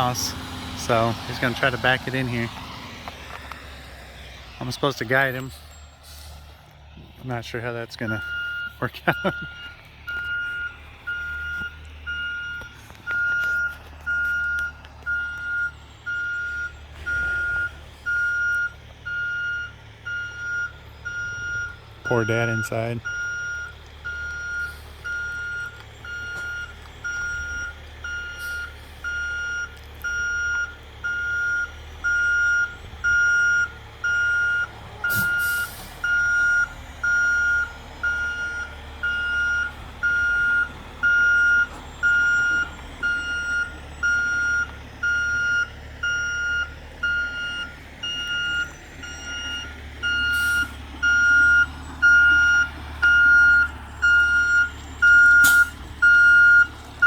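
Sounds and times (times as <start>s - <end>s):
truck engine rumble: 0.0s - 57.0s
back-up alarm beeping: 8.0s - 56.7s.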